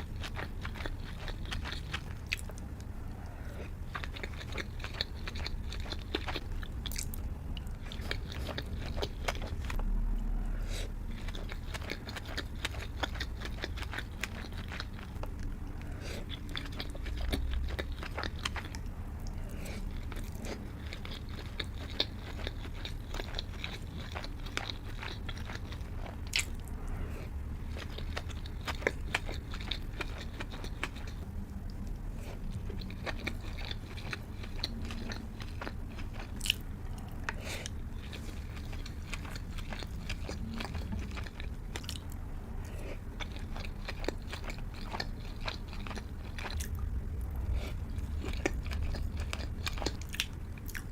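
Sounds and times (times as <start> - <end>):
chewing and biting food: 0.0 - 50.9.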